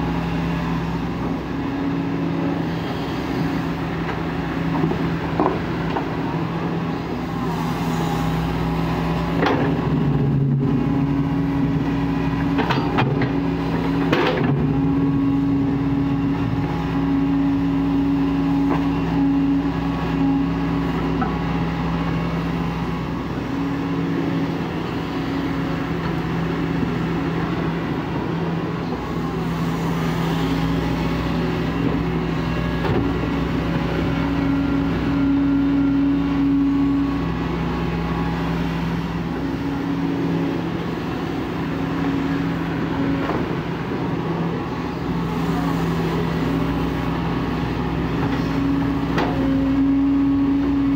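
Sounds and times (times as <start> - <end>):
excavator diesel engine working: 0.0 - 50.9.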